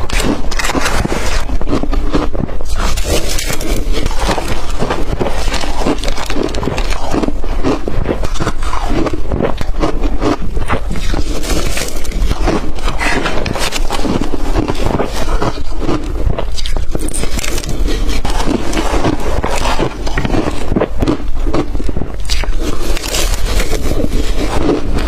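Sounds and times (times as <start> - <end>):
ice being chewed: 0.0 - 25.0.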